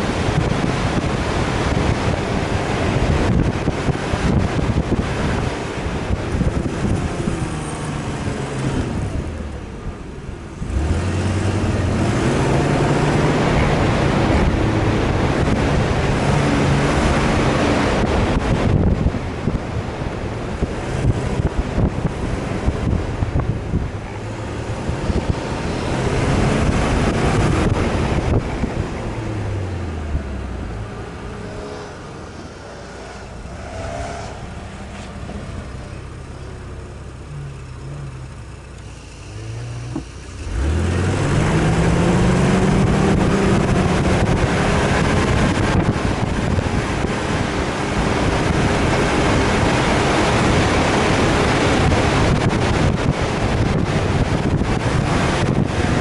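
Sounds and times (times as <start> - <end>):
wind rushing over microphone: 0.0 - 37.3, 40.4 - 56.0
off-road engine revving: 0.0 - 56.0.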